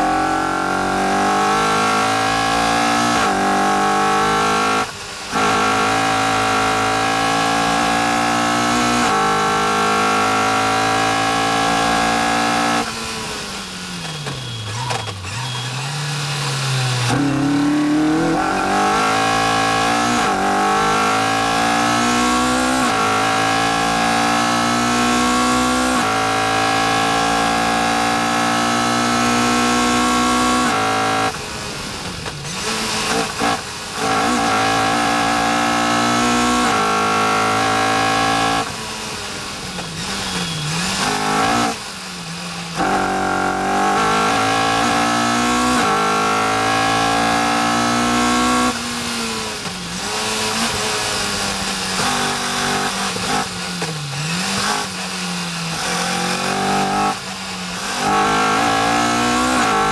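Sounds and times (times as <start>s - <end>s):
car engine accelerating through gears: 0.0s - 13.5s, 14.1s - 31.8s, 32.5s - 41.9s, 42.7s - 59.9s.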